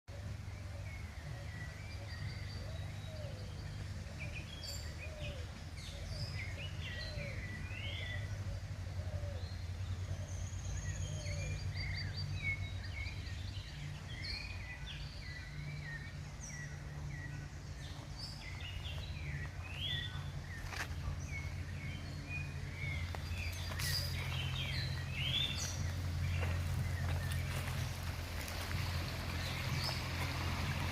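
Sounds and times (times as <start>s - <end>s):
birds chirping and calling: 0.1s - 30.9s
steady low rumble: 0.1s - 30.9s.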